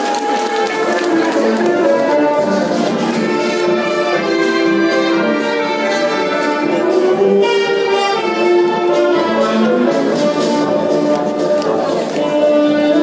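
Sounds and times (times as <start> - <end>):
orchestral strings and brass: 0.0 - 13.0.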